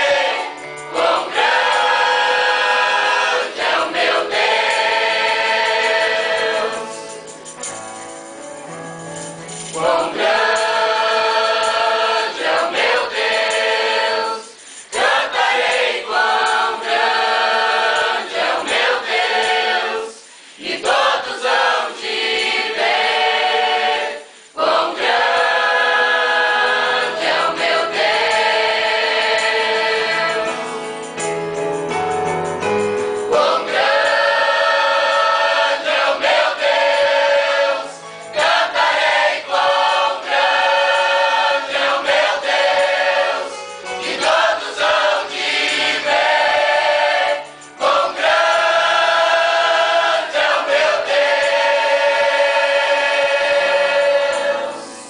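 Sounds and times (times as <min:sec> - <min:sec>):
choir singing worship song: 0:00.0 - 0:08.1, 0:08.7 - 0:31.3, 0:32.8 - 0:55.0.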